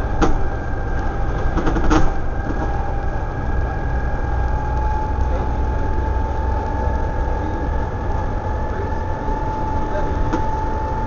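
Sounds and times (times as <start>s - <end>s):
bus diesel engine rumbling: 0.0s - 11.0s
drivetrain whine: 0.0s - 11.0s.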